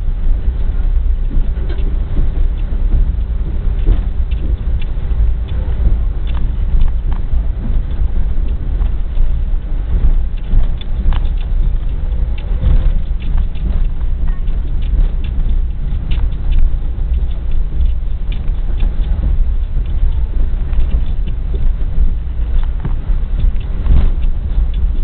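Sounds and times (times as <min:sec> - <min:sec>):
train wheels rumbling on track: 0:00.0 - 0:25.0
wheels clicking over rail joints: 0:00.0 - 0:25.0.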